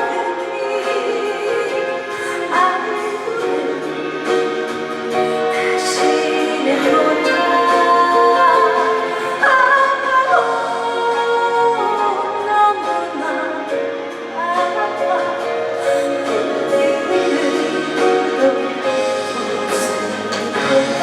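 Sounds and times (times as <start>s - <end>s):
musical accompaniment: 0.0s - 21.0s
woman singing: 0.0s - 21.0s.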